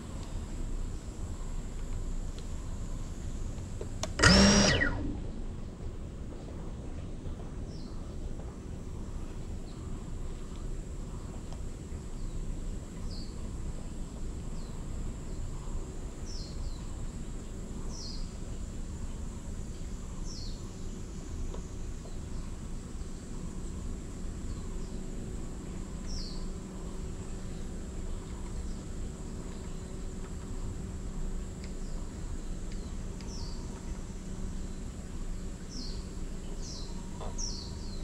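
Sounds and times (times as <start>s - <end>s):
low background noise: 0.0s - 38.0s.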